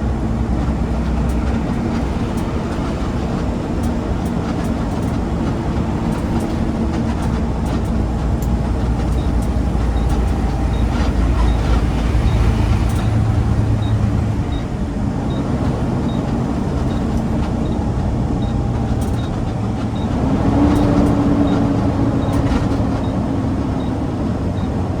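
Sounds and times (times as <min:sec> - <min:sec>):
garbage truck engine rumbling: 0:00.0 - 0:25.0.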